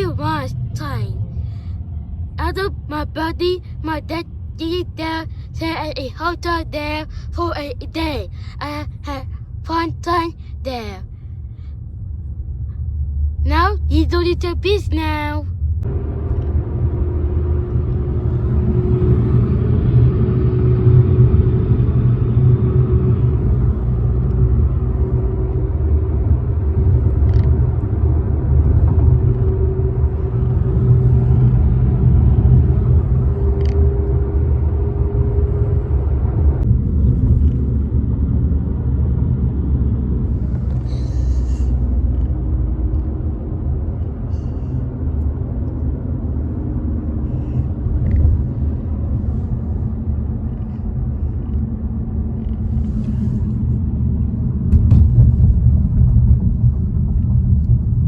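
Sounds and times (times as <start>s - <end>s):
car engine and tyre rumble: 0.0s - 58.0s
faint wavering hum: 0.0s - 58.0s.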